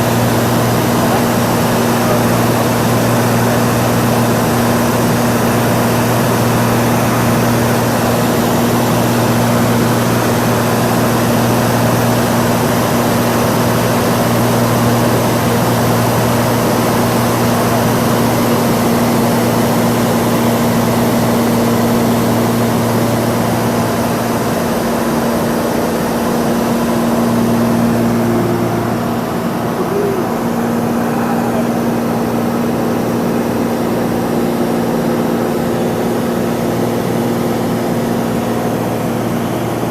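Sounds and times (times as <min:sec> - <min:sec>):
propeller airplane engine in flight: 0:00.0 - 0:39.9.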